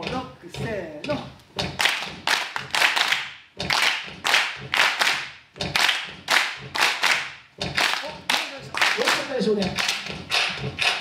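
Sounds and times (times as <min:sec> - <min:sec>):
hands clapping in rhythm: 0:01.8 - 0:11.0.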